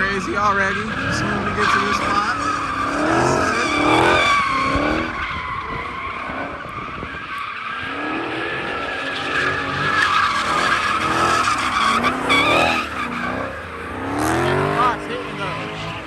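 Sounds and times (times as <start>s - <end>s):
car engine revving: 0.0s - 16.0s
tires squealing: 0.0s - 16.0s.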